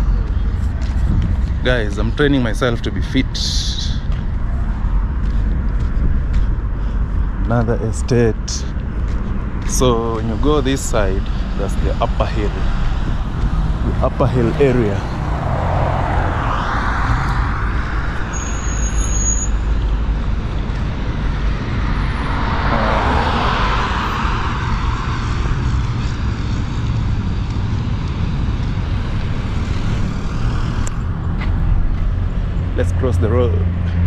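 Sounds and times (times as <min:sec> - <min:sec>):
traffic rumble: 0:00.0 - 0:34.0
vehicles sweeping past: 0:00.0 - 0:34.0.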